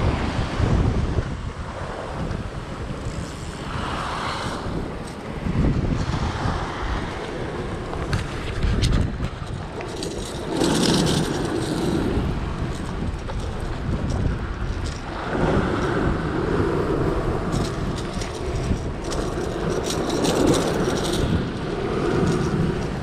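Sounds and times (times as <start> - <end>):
waves breaking against rocks: 0.0 - 23.0
wind buffeting microphone: 0.0 - 23.0.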